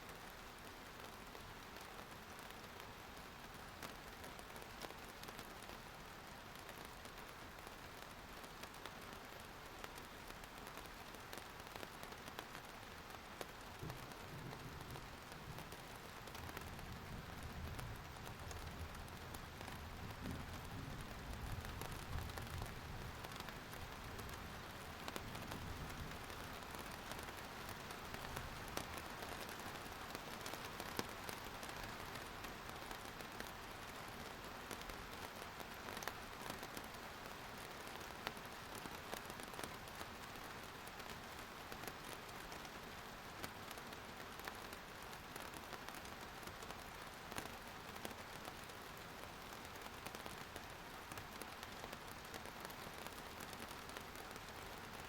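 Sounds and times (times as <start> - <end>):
steady rain hiss: 0.0 - 55.0
raindrop ticks: 1.8 - 55.0.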